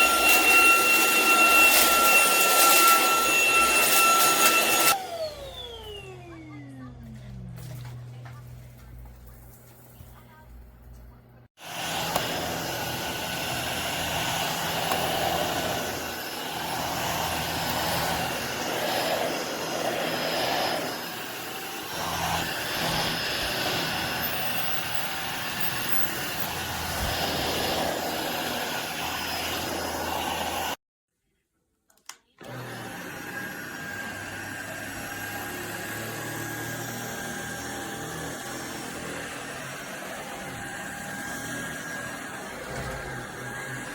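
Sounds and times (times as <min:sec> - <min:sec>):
cordless vacuum running: 0:00.0 - 0:07.8, 0:11.6 - 0:30.8, 0:32.4 - 0:43.9.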